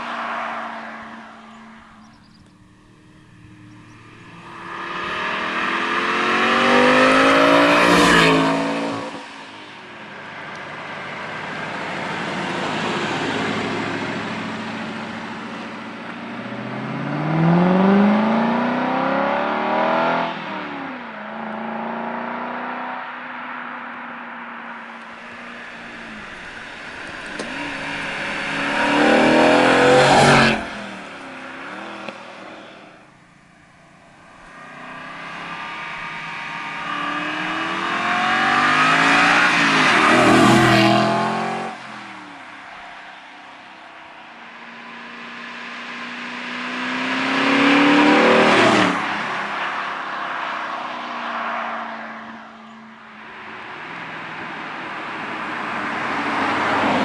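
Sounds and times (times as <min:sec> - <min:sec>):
car engine accelerating hard: 0:00.0 - 0:23.6, 0:24.6 - 0:52.5.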